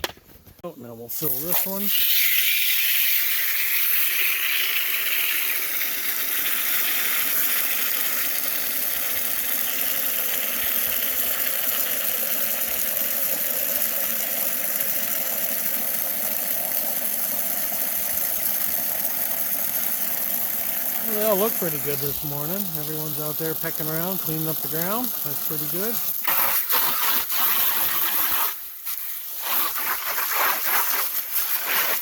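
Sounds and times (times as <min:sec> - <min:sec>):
water running from hose into container: 0:01.1 - 0:32.0.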